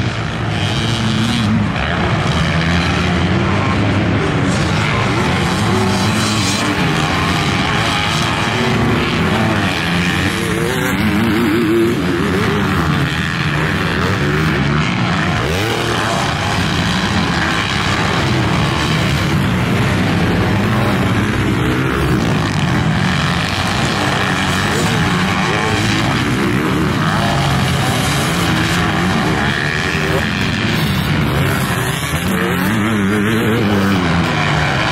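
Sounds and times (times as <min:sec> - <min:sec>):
motocross bikes revving: 0:00.0 - 0:34.9.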